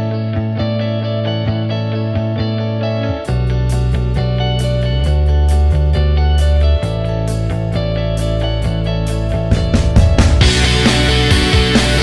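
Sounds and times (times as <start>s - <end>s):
guitar music with bass and beat: 0.0s - 12.0s.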